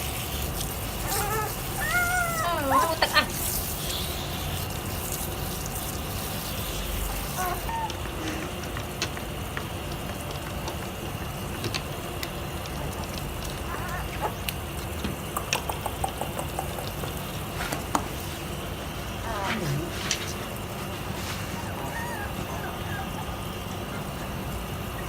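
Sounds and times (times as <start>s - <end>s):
water running and splashing: 0.0s - 7.7s, 8.6s - 21.6s.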